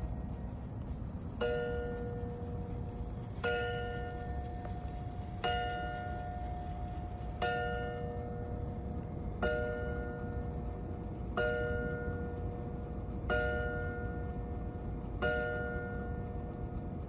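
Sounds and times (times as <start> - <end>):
clock chime strokes ringing: 1.4 - 16.6.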